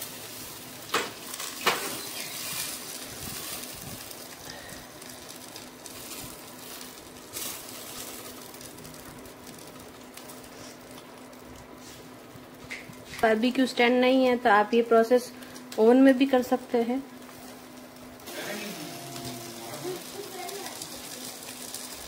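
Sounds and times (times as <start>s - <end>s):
meat sizzling on a grill: 0.0s - 14.0s, 15.5s - 22.0s.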